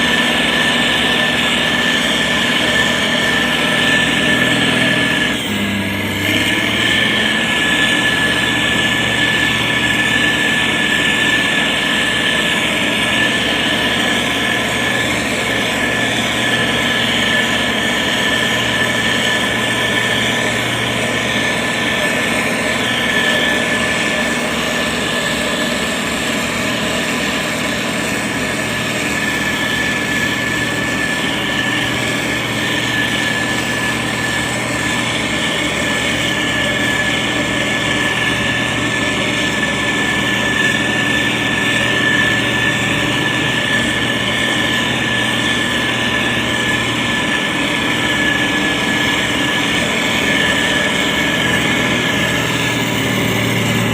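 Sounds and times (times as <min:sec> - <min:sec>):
diesel engine low hum: 0:00.0 - 0:53.9
high-pitched whine: 0:00.0 - 0:53.9.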